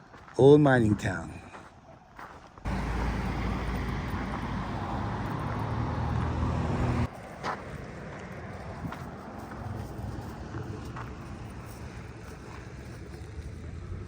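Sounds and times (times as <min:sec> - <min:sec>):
car engine and road rumble: 0:02.7 - 0:14.0.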